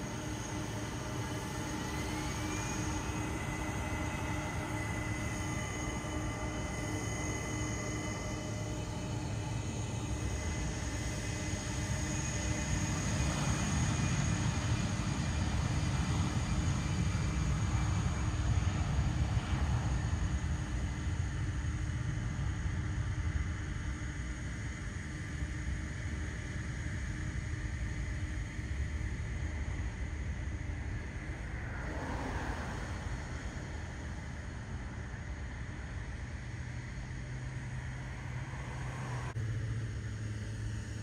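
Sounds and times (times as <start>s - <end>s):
jet airliner engines rumbling: 0.0s - 41.0s.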